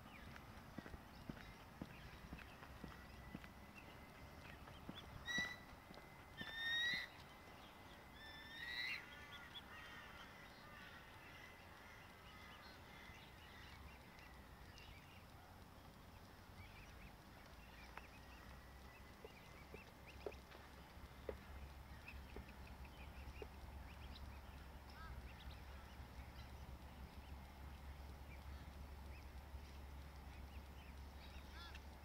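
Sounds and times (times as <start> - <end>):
faint bird chirps: 0.1 - 31.8.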